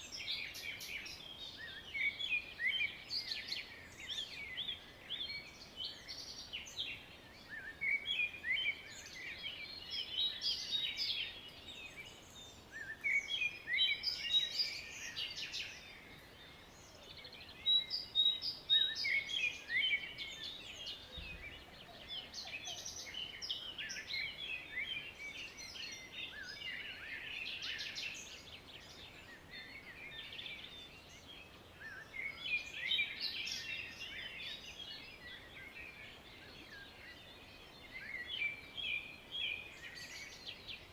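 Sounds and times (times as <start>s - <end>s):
faint background hiss: 0.0s - 40.9s
songbirds chirping and trilling: 0.0s - 40.9s.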